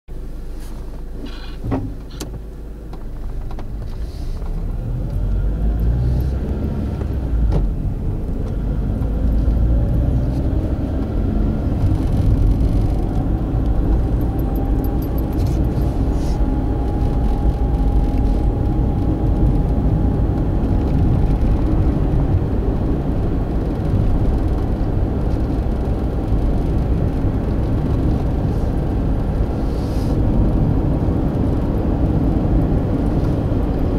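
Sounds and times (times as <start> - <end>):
car engine and tyre rumble: 0.1 - 33.9.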